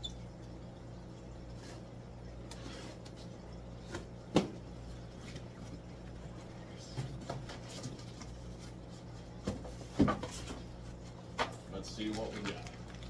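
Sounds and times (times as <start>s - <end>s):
aquarium pumps humming: 0.0s - 13.0s.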